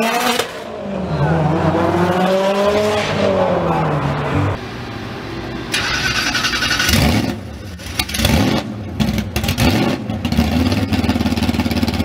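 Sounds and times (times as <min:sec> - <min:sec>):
car engine starting and revving: 0:00.0 - 0:11.6.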